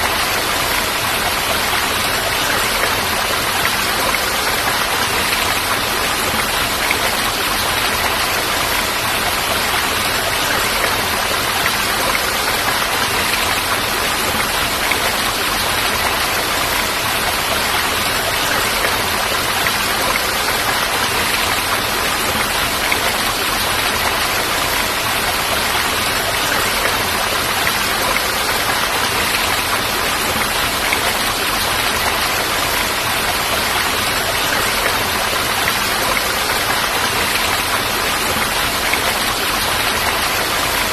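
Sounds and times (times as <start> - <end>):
falling water rushing: 0.0 - 40.9.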